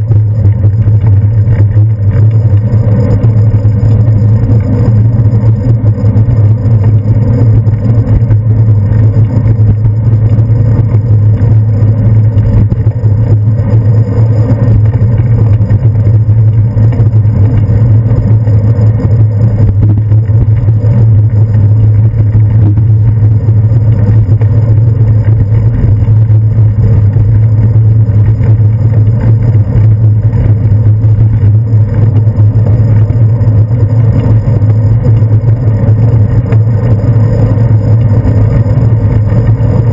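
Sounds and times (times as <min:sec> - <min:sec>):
road vibration: 0:00.0 - 0:39.9
wind rumble: 0:00.0 - 0:39.9.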